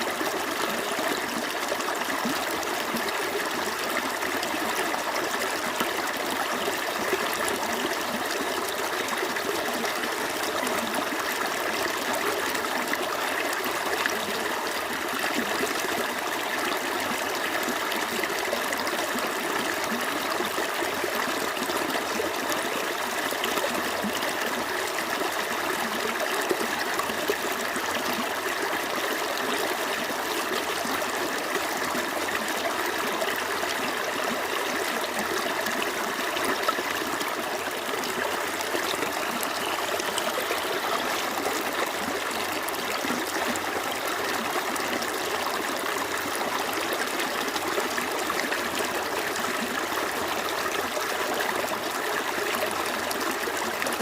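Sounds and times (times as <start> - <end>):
stream flowing over rocks: 0.0 - 54.0.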